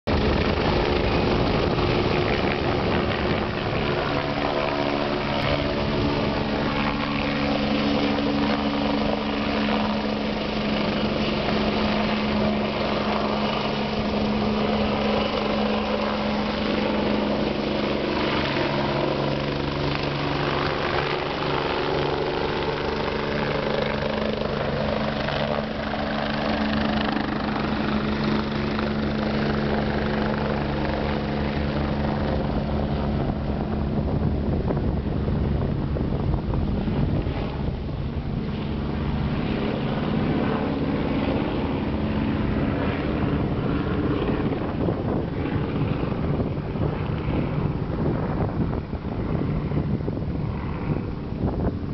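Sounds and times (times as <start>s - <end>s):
helicopter hovering: 0.0s - 51.9s.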